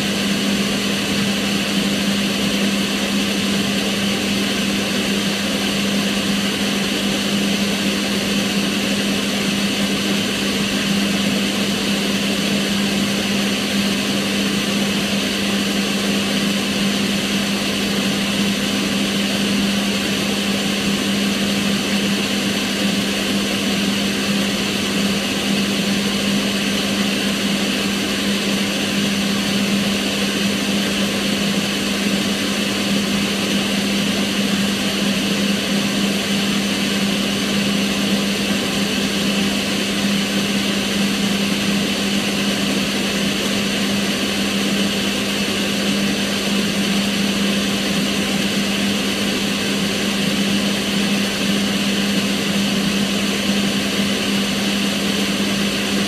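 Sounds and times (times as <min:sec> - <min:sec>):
extractor fan running: 0:00.0 - 0:56.0.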